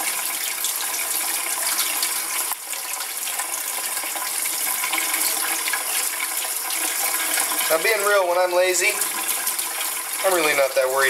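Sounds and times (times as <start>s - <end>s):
faucet running into metal sink: 0.0s - 11.0s.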